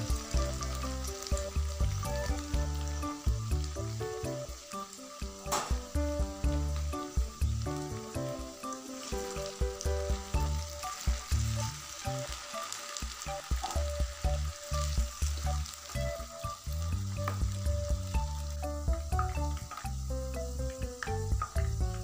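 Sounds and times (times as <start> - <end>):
background music: 0.0 - 22.0
potatoes deep-frying in oil: 0.0 - 22.0.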